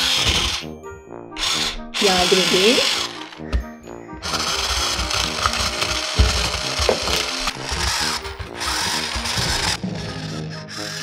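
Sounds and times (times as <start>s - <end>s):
toy mixer motor whirring: 0.0s - 0.8s, 1.4s - 3.6s, 4.2s - 11.0s.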